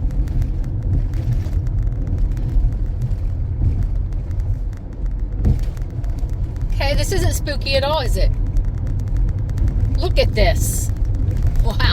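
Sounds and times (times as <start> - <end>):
car interior rumble driving: 0.0 - 11.9.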